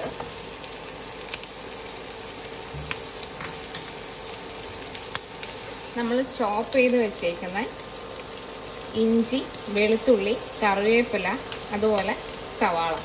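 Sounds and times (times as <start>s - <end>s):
prawns sizzling in hot oil: 0.0s - 13.0s.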